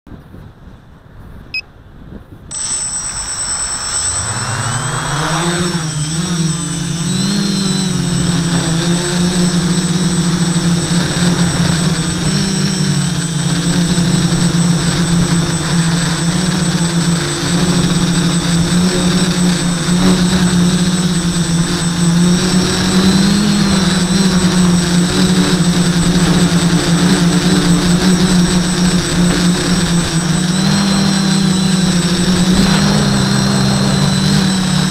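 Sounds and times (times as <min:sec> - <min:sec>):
high propeller whine: 0:02.5 - 0:34.9
quadcopter motors buzzing: 0:02.5 - 0:34.9.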